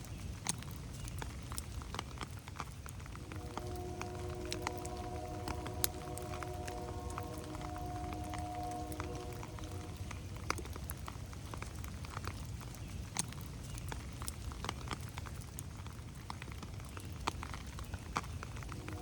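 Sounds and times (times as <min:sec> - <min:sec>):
low steady rain rumble: 0:00.0 - 0:19.0
raindrops ticking on leaves: 0:00.0 - 0:19.0.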